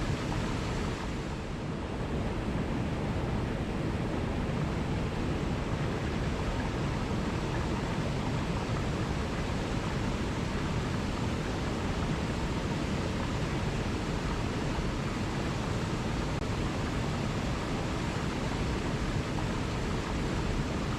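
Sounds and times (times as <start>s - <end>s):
waterfall roaring: 0.0s - 20.9s.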